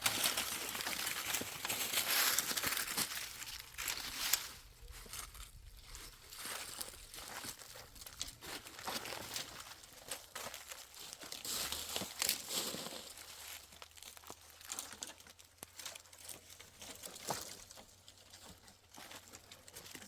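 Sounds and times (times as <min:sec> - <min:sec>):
dry rustling and crackling: 0:00.0 - 0:20.0.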